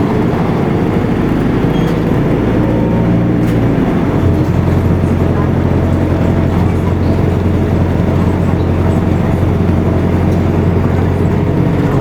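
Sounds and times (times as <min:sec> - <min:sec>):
bus diesel engine droning: 0:00.0 - 0:12.0
road noise: 0:00.0 - 0:12.0.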